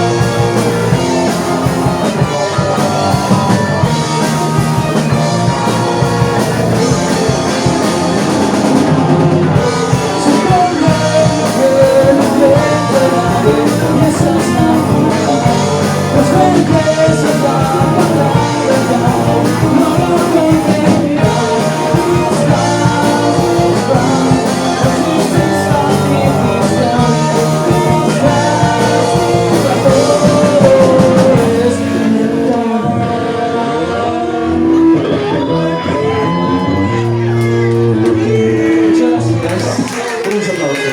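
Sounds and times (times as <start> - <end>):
drum kit: 0.0 - 40.4
electric guitar: 0.0 - 40.9
person singing: 0.0 - 40.9.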